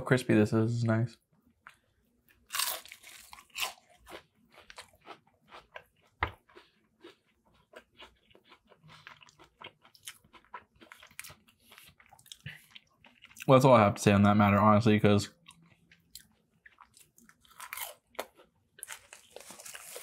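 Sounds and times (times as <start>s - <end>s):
crunchy chewing of fried fish: 1.6s - 13.5s, 15.3s - 20.0s.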